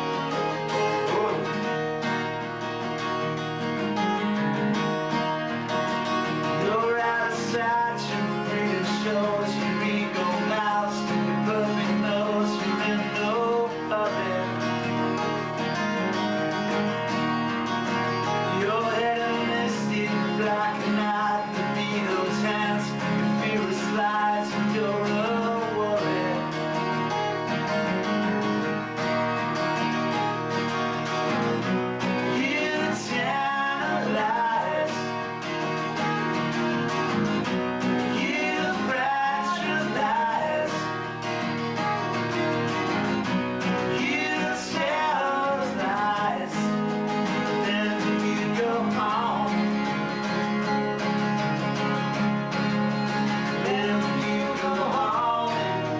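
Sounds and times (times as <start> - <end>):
acoustic guitar strummed and picked: 0.0 - 55.9.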